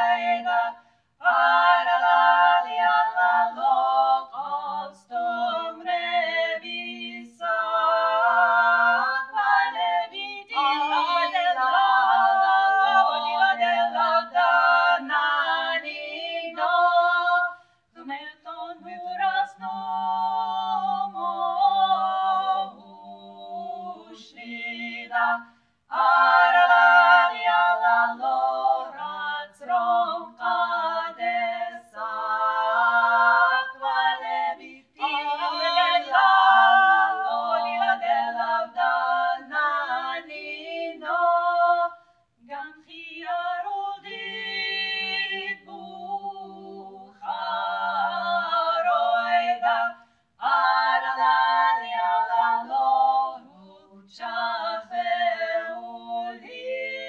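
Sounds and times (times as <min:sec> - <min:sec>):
voices singing in harmony: 0:00.0 - 0:57.0.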